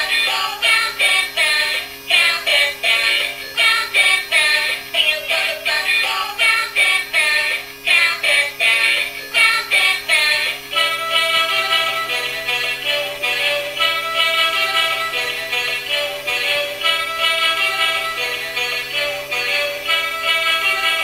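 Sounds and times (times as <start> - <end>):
toy electronic children's song: 0.0 - 21.0.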